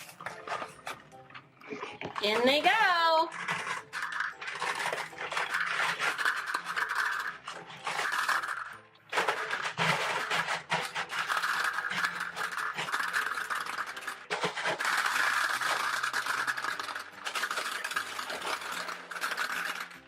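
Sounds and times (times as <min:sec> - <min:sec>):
gumballs pouring into machine: 0:00.0 - 0:20.0.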